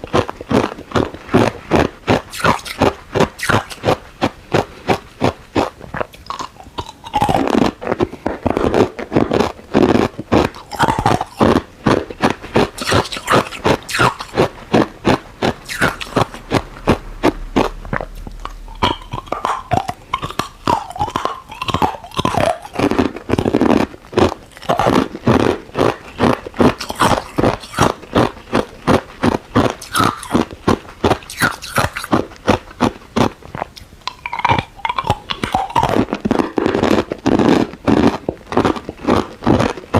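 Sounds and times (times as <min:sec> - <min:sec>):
ice cubes crunched between teeth: 0:00.0 - 0:16.4, 0:18.4 - 0:39.9.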